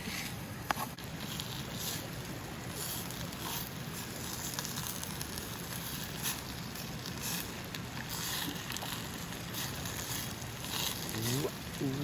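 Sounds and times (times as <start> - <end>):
wood fire hissing and crackling: 0.0 - 12.0.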